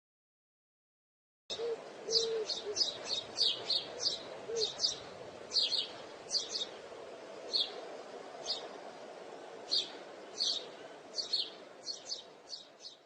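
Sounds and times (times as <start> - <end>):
background hiss: 1.6 - 13.0.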